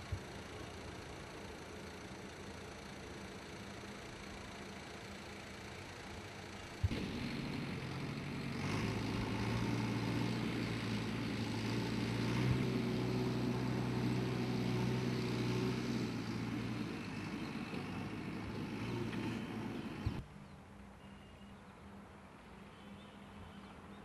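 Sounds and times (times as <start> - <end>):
diesel engine running: 0.0 - 20.2.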